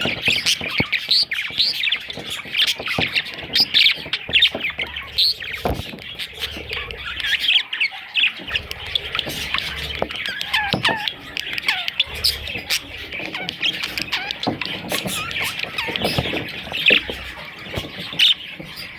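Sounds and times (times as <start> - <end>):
budgerigars chirping and squawking: 0.0 - 18.9.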